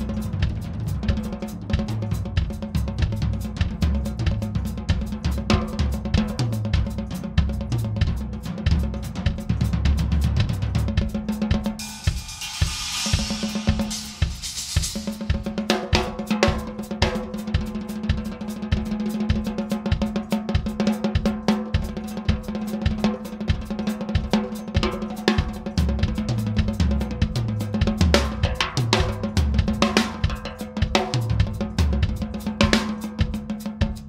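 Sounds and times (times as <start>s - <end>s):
drum kit playing: 0.0s - 34.0s.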